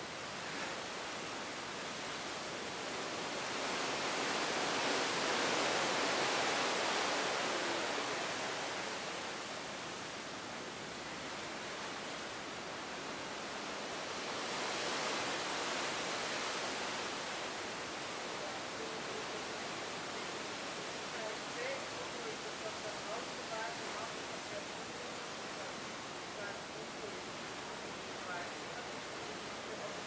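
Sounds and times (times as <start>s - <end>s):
seawater rushing along ship: 0.0s - 30.0s
wind: 0.0s - 30.0s.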